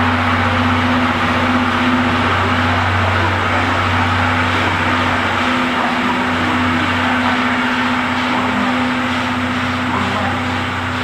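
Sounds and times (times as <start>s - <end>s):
train engine humming: 0.0s - 11.0s.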